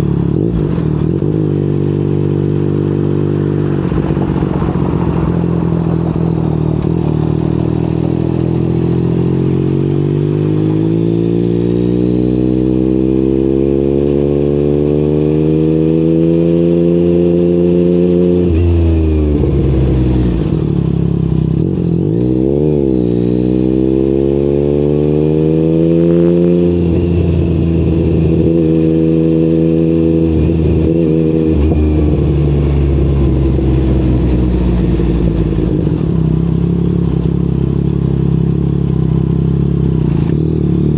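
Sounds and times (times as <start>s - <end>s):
motorcycle engine revving under load: 0.0s - 40.9s.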